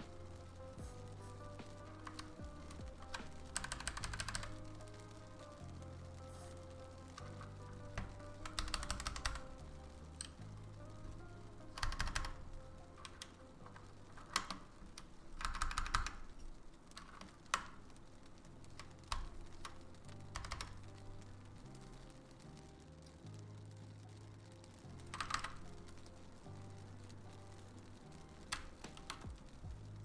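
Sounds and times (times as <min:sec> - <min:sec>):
mechanical keyboard typing: 0:00.0 - 0:22.4, 0:24.9 - 0:30.0
background music: 0:00.0 - 0:30.0.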